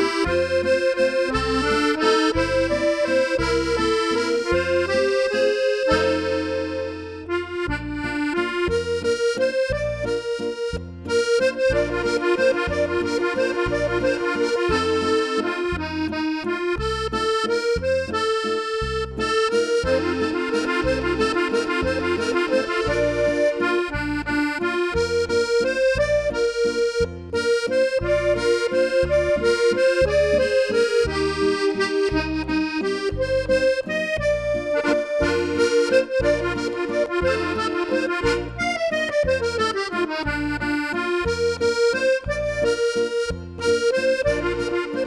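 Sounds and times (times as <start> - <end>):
accordion playing: 0.0 - 45.0.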